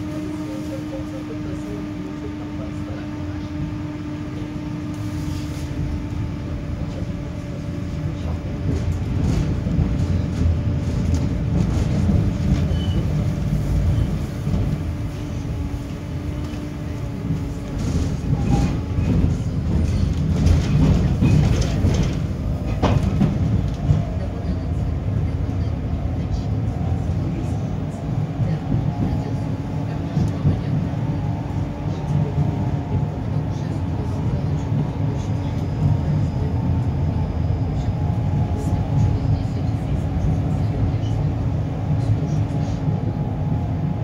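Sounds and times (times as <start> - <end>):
tram wheels rumbling on rail: 0.0 - 44.0.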